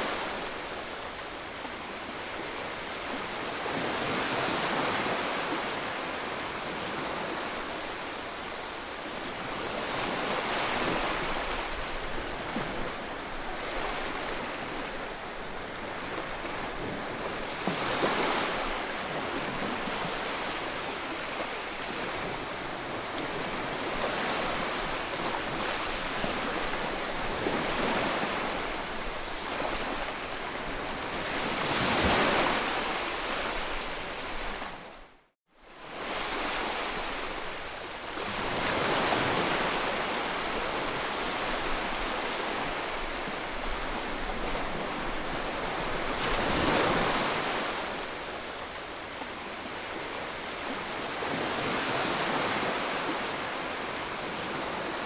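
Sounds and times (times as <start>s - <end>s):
ocean waves breaking: 0.0s - 35.0s, 35.8s - 55.0s.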